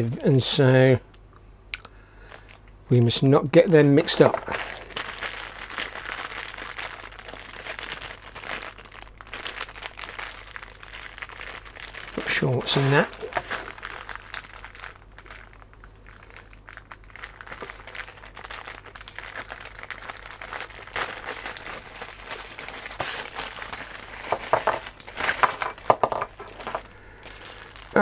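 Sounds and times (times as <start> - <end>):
plastic bag crinkling: 2.3 - 28.0.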